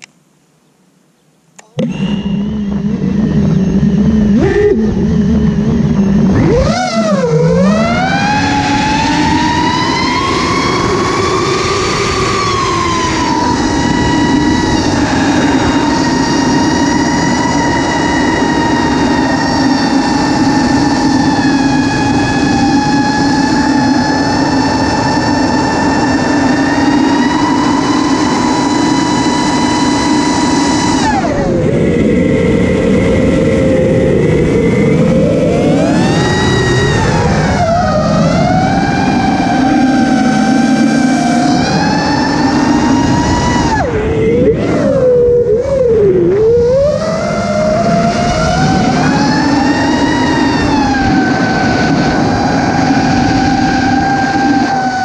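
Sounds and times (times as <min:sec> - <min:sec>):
quadcopter propellers whining: 0:01.6 - 0:55.0
rushing noise: 0:01.8 - 0:55.0.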